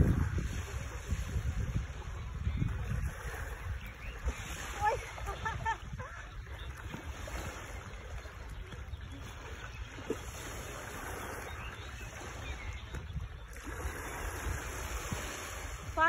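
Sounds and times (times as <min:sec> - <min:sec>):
sea water lapping: 0:00.0 - 0:16.0.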